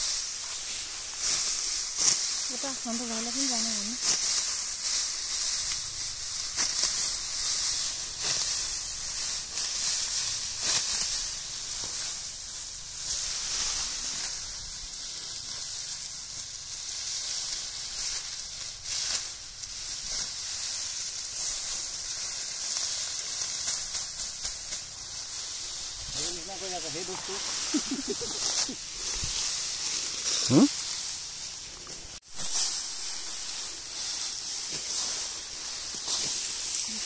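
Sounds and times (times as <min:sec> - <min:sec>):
steady high-pitched hiss: 0:00.0 - 0:37.0.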